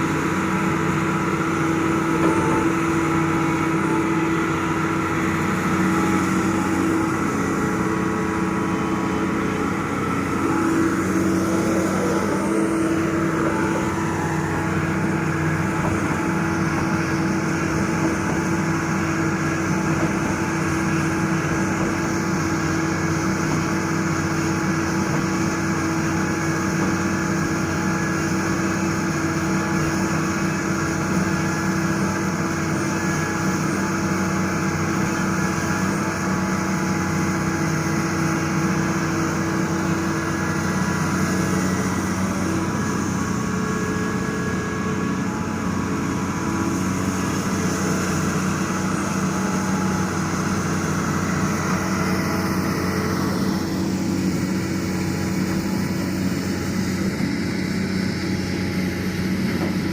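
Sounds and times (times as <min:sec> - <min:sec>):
constant humming tone: 0:00.0 - 0:59.9
heavy machine diesel engine running: 0:00.0 - 0:59.9.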